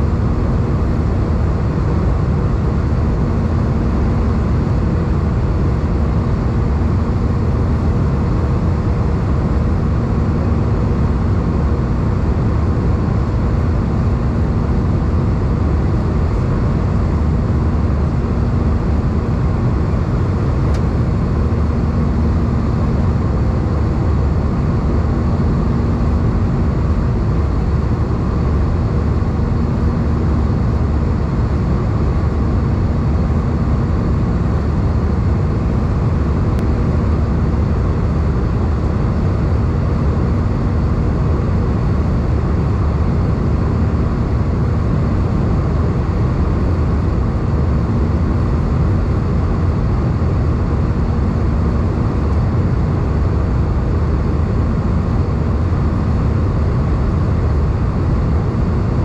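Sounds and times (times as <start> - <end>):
aircraft cabin engine rush: 0.0 - 59.0
faint steady hum: 0.0 - 59.0.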